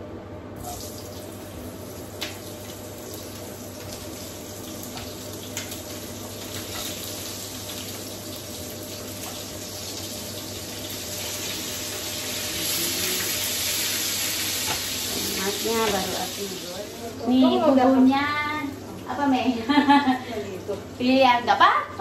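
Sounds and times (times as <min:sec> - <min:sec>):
food sizzling in hot oil: 0:00.6 - 0:19.4.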